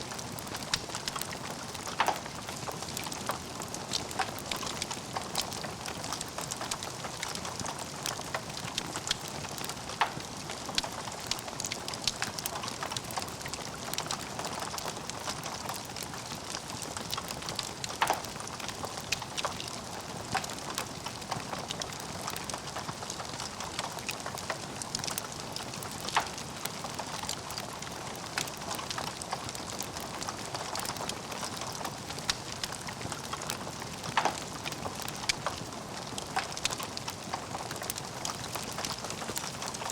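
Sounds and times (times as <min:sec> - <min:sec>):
logs burning and crackling: 0:00.0 - 0:39.9.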